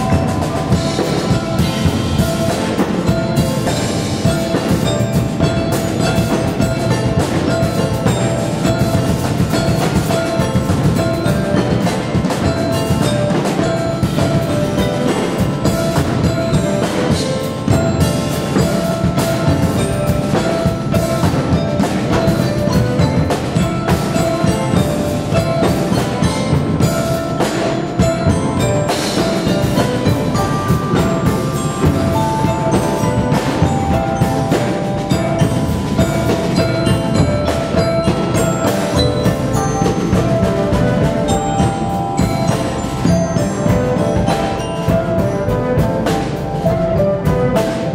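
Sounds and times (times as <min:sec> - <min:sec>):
marimbas playing: 0:00.0 - 0:47.9.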